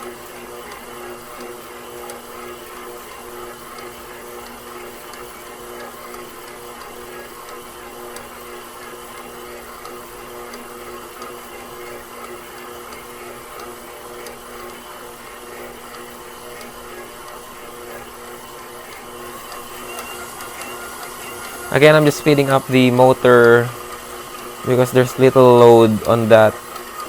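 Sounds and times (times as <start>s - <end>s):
stand mixer motor running: 0.0s - 27.0s.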